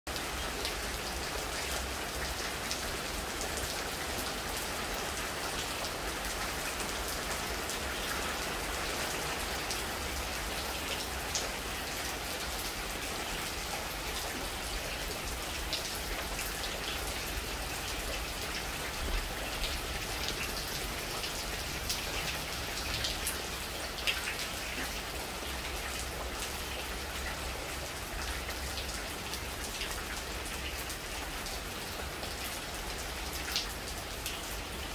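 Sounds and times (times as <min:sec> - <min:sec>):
rain falling on leafy trees: 0:00.1 - 0:34.9.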